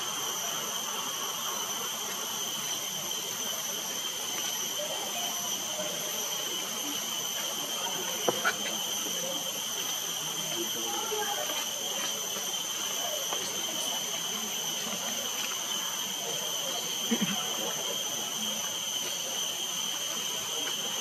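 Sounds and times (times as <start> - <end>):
faint indistinct voices: 0.0 - 21.0
outdoor background hiss: 0.0 - 21.0.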